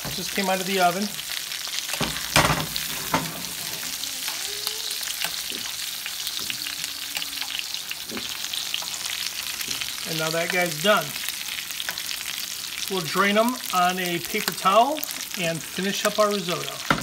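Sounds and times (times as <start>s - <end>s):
butter sizzling in a frying pan: 0.0s - 17.0s.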